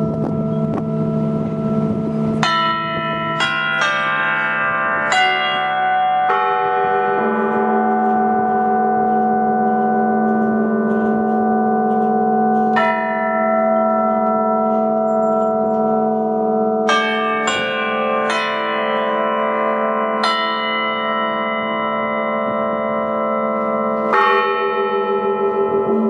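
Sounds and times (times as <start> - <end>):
bells ringing in slow strokes: 0.0 - 26.0.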